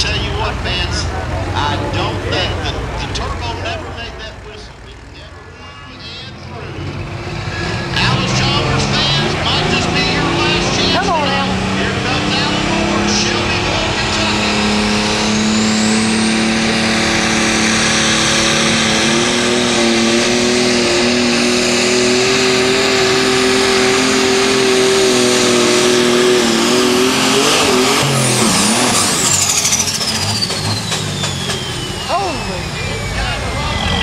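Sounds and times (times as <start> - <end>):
diesel engine running hard: 0.0 - 34.0
high turbo whine: 0.0 - 34.0.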